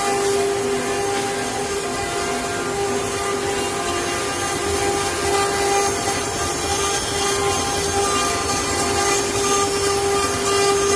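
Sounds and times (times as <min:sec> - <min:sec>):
bit cutting wood: 0:00.0 - 0:10.9
router spindle whine: 0:00.0 - 0:10.9.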